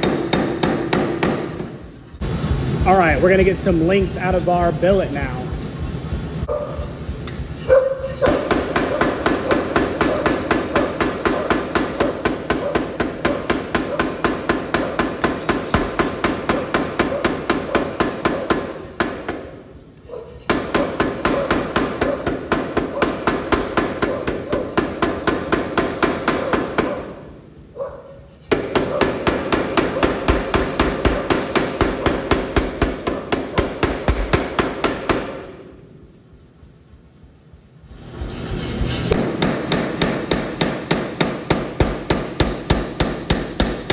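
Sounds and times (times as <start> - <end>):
power hammer striking hot steel: 0.0 - 6.4, 7.1 - 19.8, 20.4 - 27.1, 28.4 - 35.8, 39.1 - 43.9.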